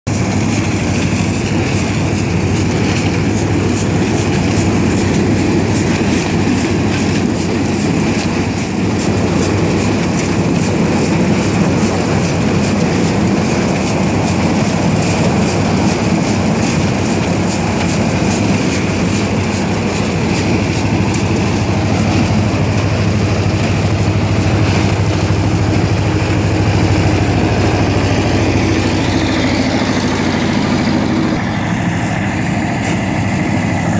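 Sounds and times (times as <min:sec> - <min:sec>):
tractor diesel engine running: 0:00.0 - 0:33.9
rollers and chains rattling: 0:00.1 - 0:33.9.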